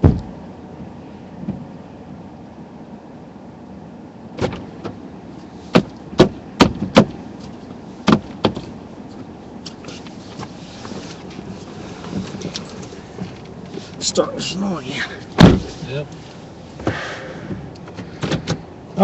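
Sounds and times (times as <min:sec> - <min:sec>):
car rumbling: 0:00.0 - 0:19.0.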